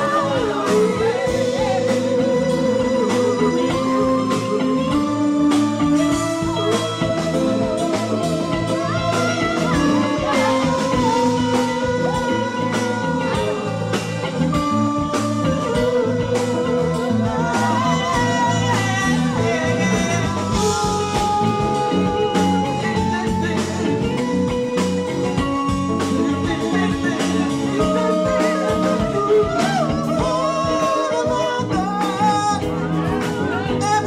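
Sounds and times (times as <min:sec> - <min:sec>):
live soul band playing: 0:00.0 - 0:34.0
people singing: 0:00.0 - 0:34.0.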